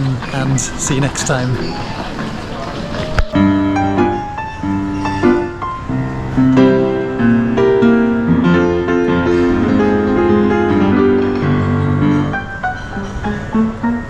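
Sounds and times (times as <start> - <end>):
piano instrumental music: 0.0 - 14.0.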